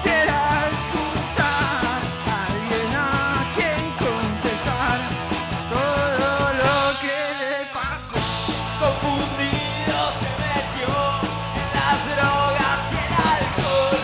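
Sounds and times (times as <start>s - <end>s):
drum kit with cymbals: 0.0s - 14.0s
man singing lead vocal: 0.0s - 14.0s
rock band playing live: 0.0s - 14.0s.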